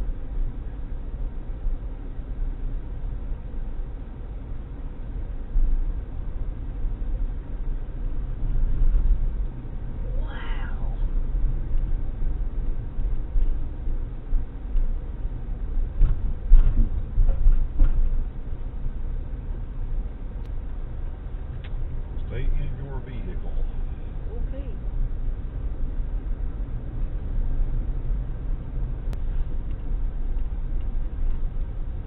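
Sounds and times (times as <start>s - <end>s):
vehicle driving rumble: 0.0s - 32.0s.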